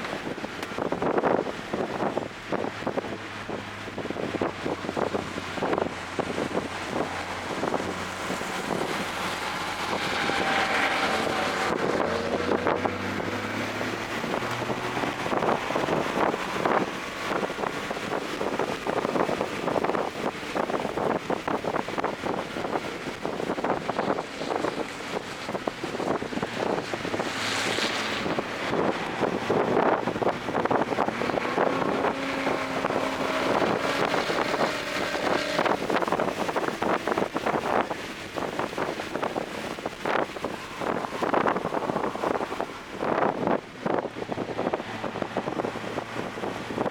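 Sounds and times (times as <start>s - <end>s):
car engine running hard: 0.0s - 46.9s
wind noise on microphone: 0.0s - 46.9s.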